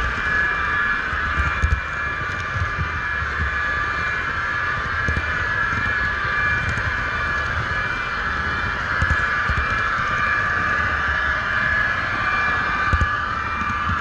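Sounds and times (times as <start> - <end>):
model train motor whine: 0.0 - 14.0.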